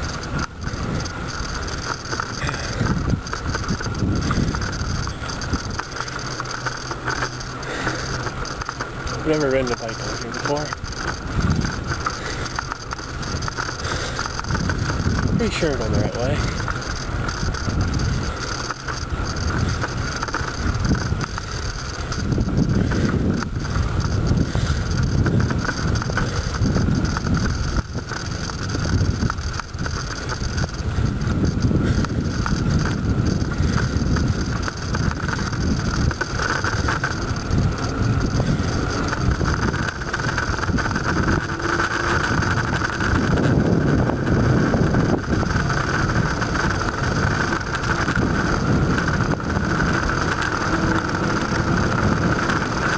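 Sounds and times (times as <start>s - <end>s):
bicycle road noise: 0.0s - 52.9s
steady high hum: 0.0s - 52.9s
wind rumble on microphone: 0.0s - 52.9s.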